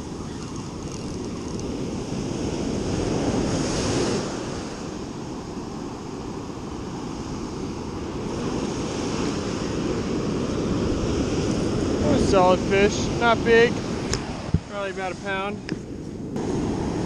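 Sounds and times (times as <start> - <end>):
ocean surf breaking on beach: 0.0 - 17.0
wind rumbling on microphone: 0.0 - 17.0.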